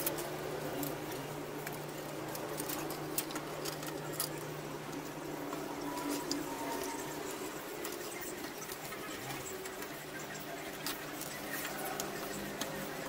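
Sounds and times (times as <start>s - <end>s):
background hum: 0.0s - 13.0s
metal parts clicking and scraping: 0.0s - 13.0s.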